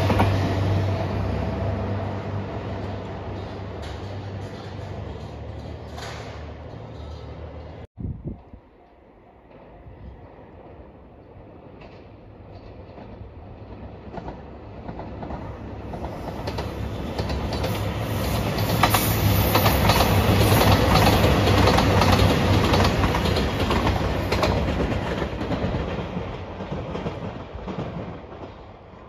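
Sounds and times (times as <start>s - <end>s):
train wheels clicking over rail joints: 2.8s - 28.9s.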